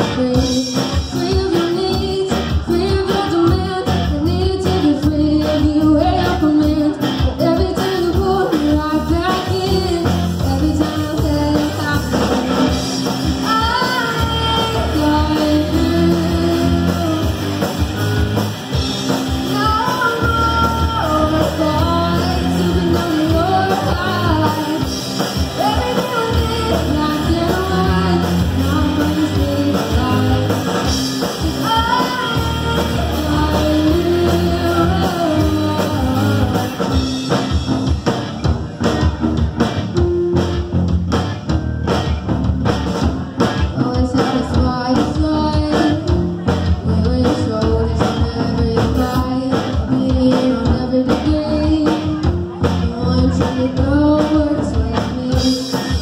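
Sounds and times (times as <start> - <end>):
woman singing: 0.0 - 17.7, 18.8 - 37.5, 43.6 - 56.0
live rock band playing: 0.0 - 56.0.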